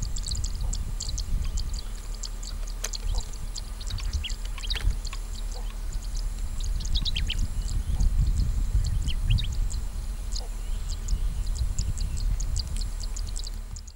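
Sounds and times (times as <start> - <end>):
birds chirping: 0.0 - 13.9
low uneven rumble: 0.0 - 13.9.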